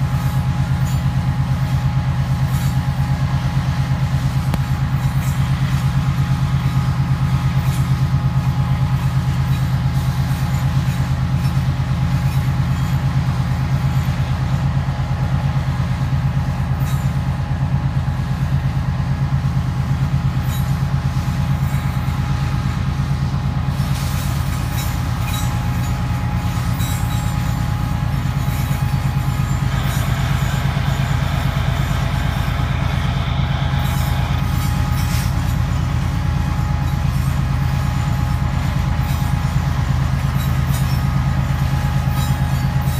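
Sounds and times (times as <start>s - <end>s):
diesel locomotive engine drone: 0.0s - 42.9s
train wheels grinding on rail: 0.0s - 42.9s.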